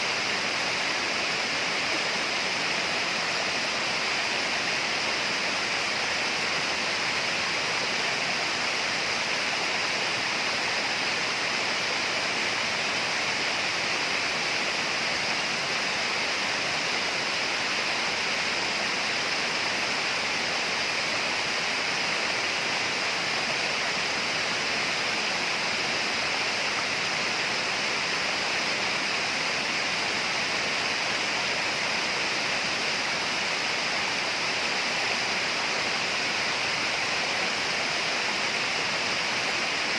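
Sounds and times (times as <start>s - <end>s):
rainforest hiss: 0.0s - 39.9s.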